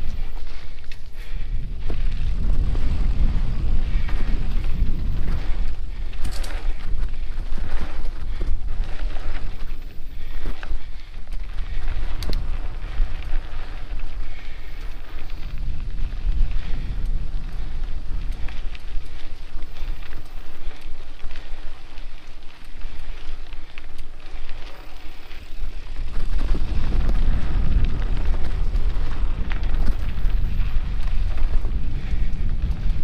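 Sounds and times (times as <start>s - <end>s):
bike tyres crunching on dirt: 0.0s - 33.0s
wind buffeting microphone: 0.0s - 33.0s.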